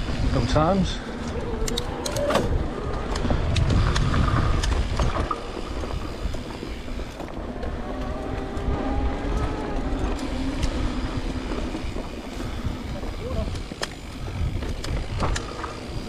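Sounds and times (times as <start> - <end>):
bike clicking and rattling: 0.0 - 16.0
bike tyres rumbling on trail: 0.0 - 16.0
wind on microphone: 0.0 - 16.0.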